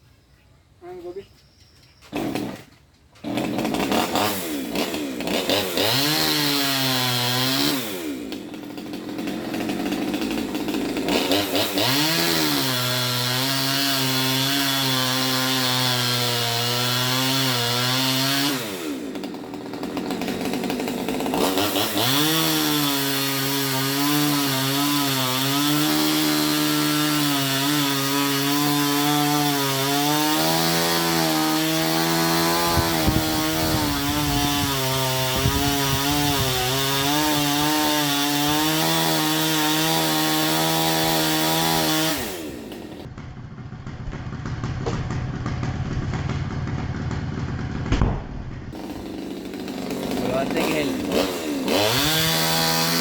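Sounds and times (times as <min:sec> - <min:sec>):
chainsaw cutting wood: 0:02.0 - 0:53.0.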